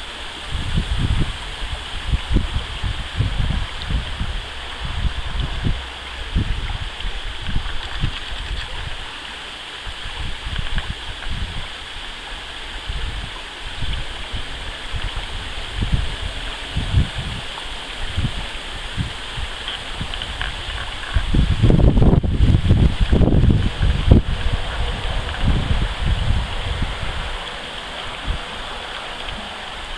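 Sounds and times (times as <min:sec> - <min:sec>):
low rumbles and thumps: 0:00.0 - 0:09.1, 0:12.9 - 0:29.9
stream babbling over stones: 0:00.0 - 0:29.9.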